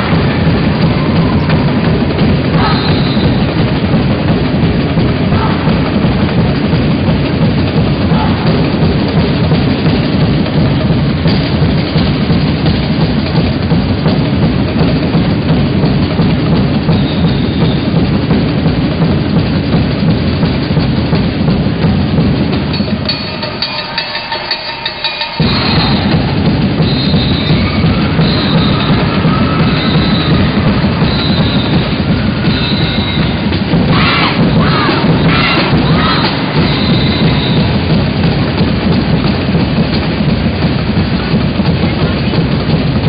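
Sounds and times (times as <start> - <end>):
loud drum-heavy music: 0.0 - 43.0.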